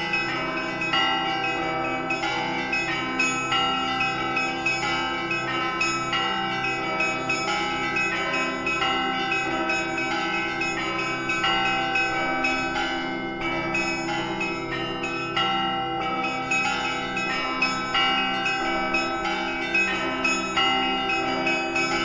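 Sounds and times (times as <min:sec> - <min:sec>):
large deep bells ringing: 0:00.0 - 0:22.0.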